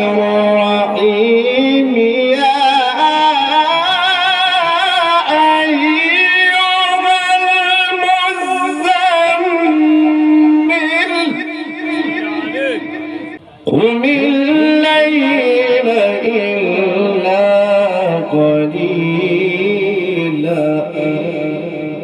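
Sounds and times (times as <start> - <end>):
man chanting recitation: 0.0 - 21.9.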